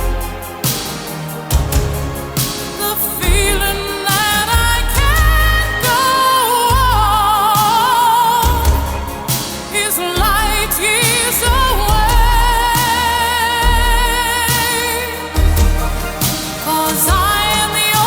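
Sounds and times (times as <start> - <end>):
band playing with heavy drums: 0.0 - 18.0
woman singing with vibrato: 2.6 - 18.0.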